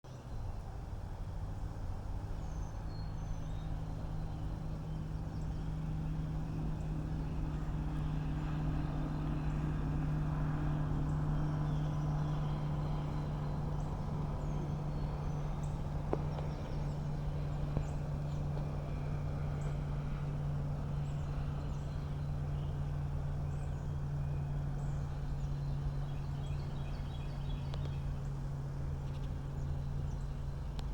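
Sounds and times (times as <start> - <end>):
low mechanical hum: 0.1 - 30.9
small birds chirping: 0.1 - 30.9.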